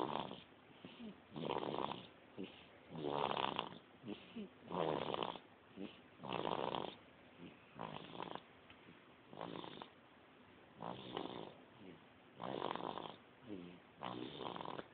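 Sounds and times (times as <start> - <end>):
baby snoring: 0.0 - 8.4, 9.3 - 10.0, 10.8 - 14.9.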